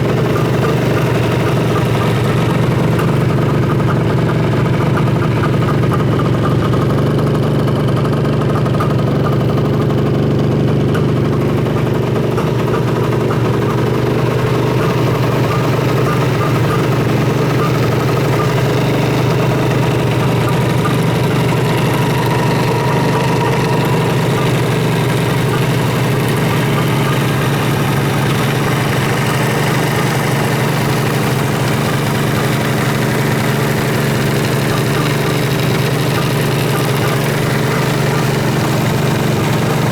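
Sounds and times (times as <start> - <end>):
two-stroke motorcycle engine idling: 0.0 - 39.9.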